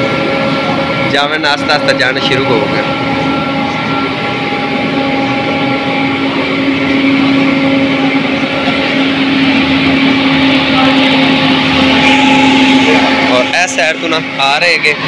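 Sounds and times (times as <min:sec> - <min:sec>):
husking machine motor hum: 0:00.0 - 0:15.0.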